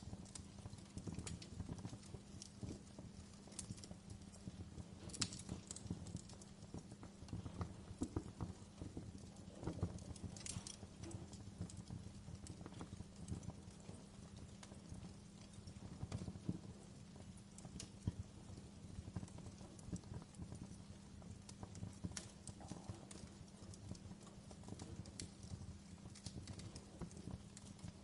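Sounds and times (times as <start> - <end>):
fireplace fire crackling: 0.0 - 28.0.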